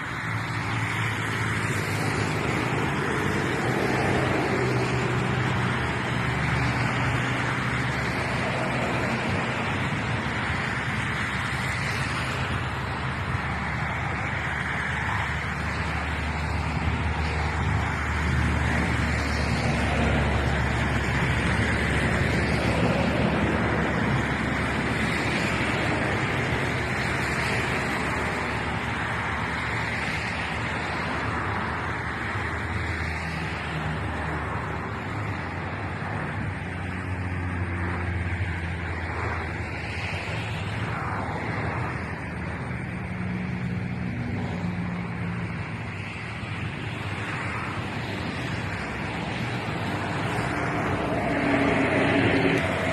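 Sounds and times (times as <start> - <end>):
jet airliner engine roar: 0.0 - 52.9.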